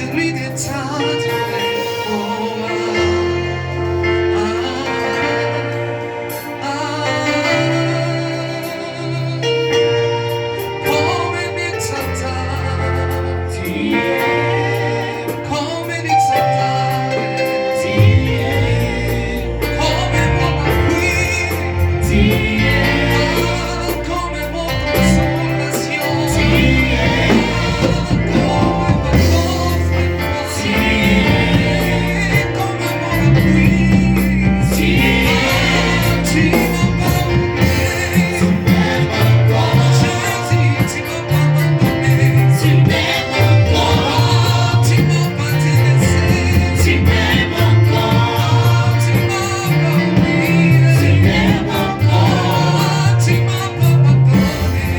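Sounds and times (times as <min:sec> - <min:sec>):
instrumental accompaniment: 0:00.0 - 0:54.9
voices singing gospel song: 0:00.0 - 0:54.9.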